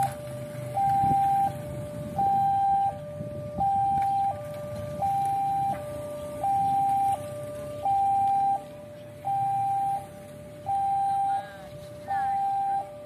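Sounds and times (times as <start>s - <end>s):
two-tone warning siren: 0.0s - 13.0s.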